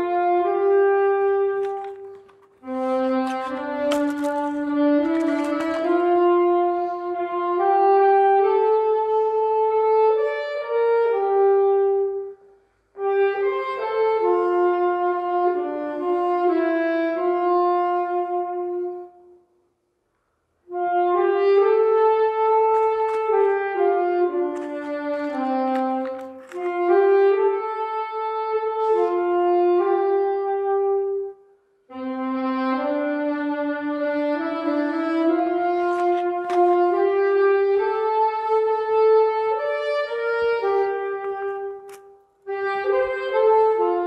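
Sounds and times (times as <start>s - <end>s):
slow brass ensemble music: 0.0s - 19.6s, 20.6s - 44.0s.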